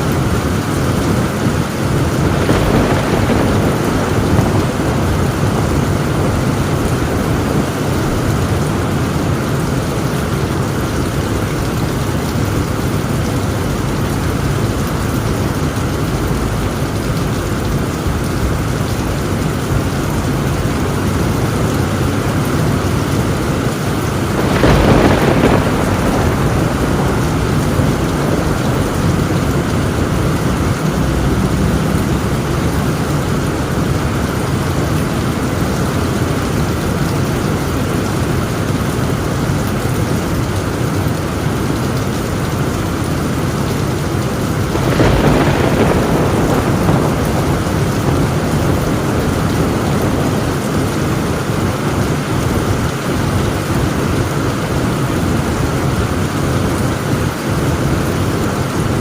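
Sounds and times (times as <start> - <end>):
heavy rain on a tin roof: 0.0 - 59.0
thunder clap: 0.1 - 37.4, 44.1 - 56.8.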